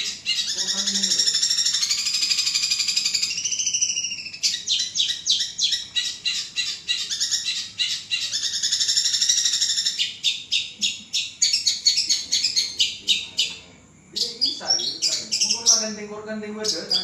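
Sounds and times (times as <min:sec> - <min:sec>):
bird singing fast chattering notes: 0:00.0 - 0:17.0.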